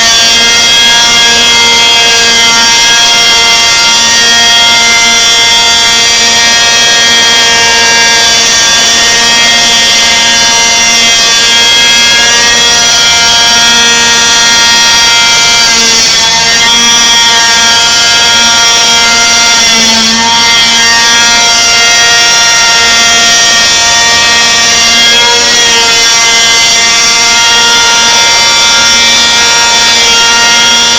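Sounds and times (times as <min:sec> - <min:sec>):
model helicopter engine running: 0:00.0 - 0:30.9.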